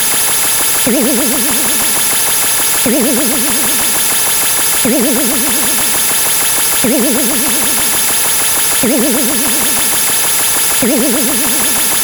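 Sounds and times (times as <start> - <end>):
cacophony of sound effects: 0.8 - 12.0.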